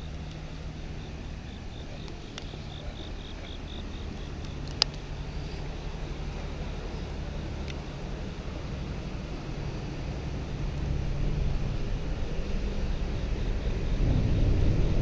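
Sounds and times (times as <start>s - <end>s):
insect chirping: 0.0s - 15.0s
low steady rumble: 0.0s - 15.0s.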